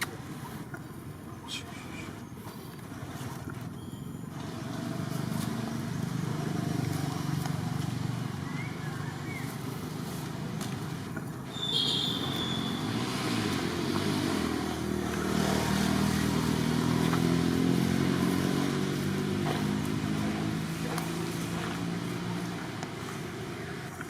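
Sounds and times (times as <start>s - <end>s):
vehicle engine passing: 2.9s - 24.0s.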